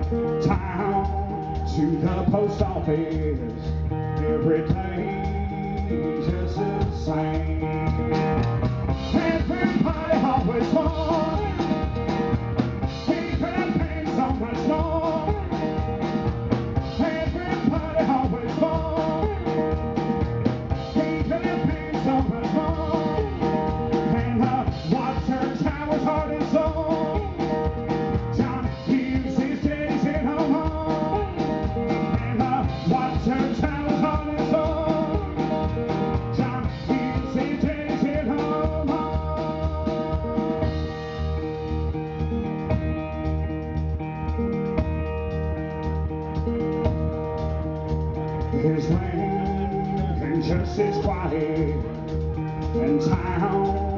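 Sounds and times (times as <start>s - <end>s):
drums: 0.0s - 53.9s
resonator guitar picking: 0.0s - 53.9s.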